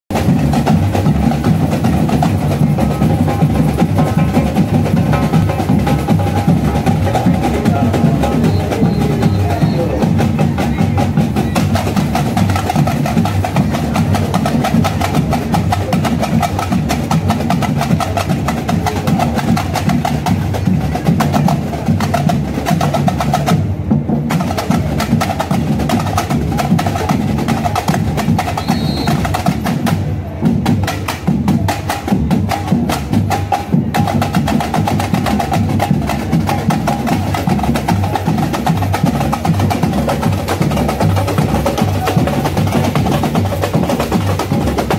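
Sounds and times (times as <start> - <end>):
samba drum corps playing: 0.1 - 44.9.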